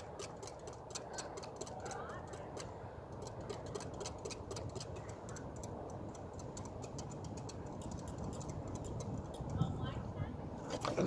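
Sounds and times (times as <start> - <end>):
whisk clicking against glass: 0.0 - 9.7.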